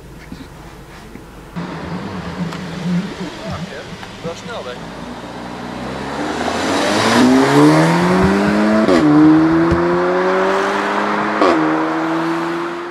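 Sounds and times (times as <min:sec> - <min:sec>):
car engine accelerating hard: 0:01.6 - 0:12.9.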